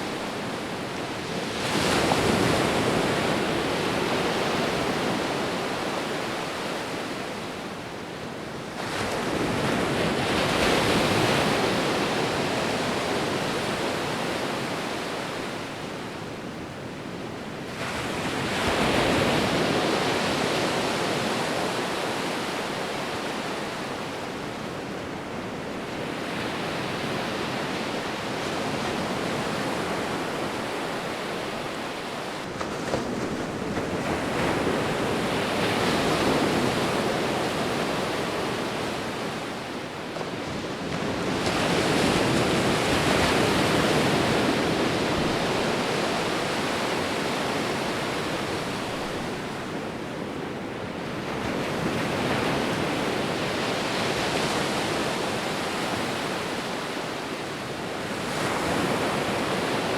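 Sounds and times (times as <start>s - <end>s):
sea waves rolling onto beach: 0.0s - 59.9s.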